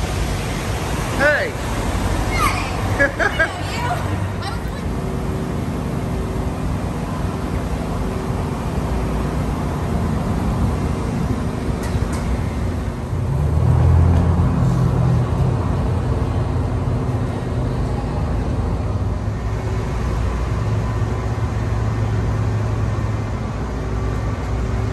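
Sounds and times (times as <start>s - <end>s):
road traffic rumble: 0.0s - 24.9s.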